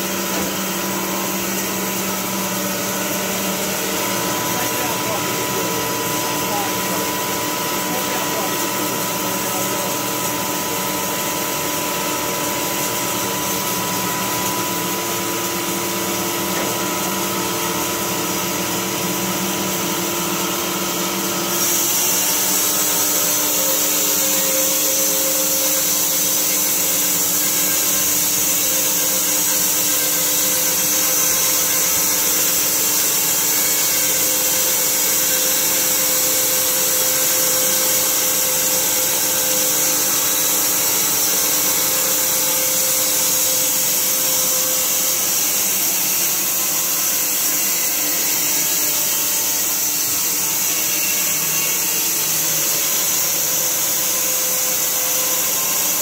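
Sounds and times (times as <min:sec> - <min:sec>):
sawmill sawing log: 0:00.0 - 0:56.0.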